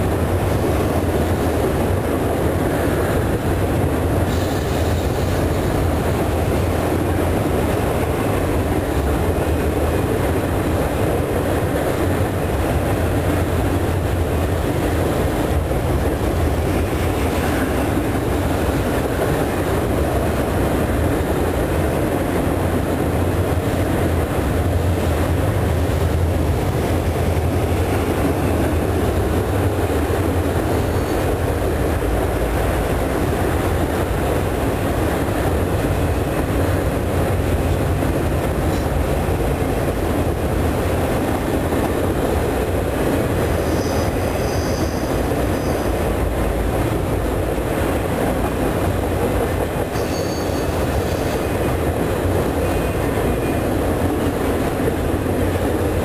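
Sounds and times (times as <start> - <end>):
freight train rumbling: 0.0 - 56.0.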